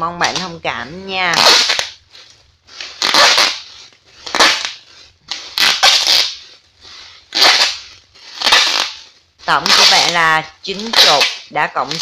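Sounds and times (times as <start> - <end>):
plastic packaging crinkling: 1.3 - 12.0.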